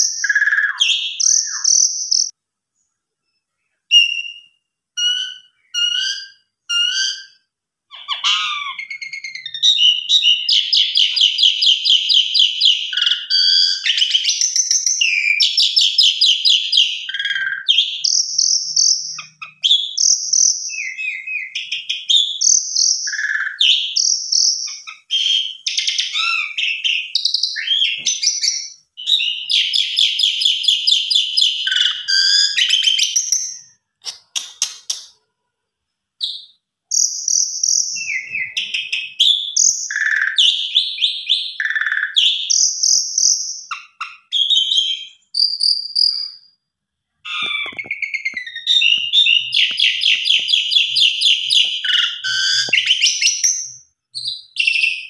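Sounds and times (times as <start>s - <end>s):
starling singing trills and whistles: 0.0s - 2.3s, 3.9s - 35.2s, 36.2s - 46.6s, 47.3s - 55.0s.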